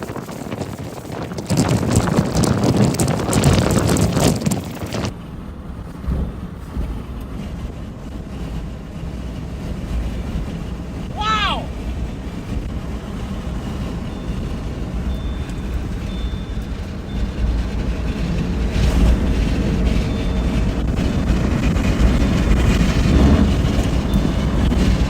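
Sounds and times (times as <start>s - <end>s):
vehicle noise: 0.0s - 25.0s
wind rumble: 0.0s - 25.0s.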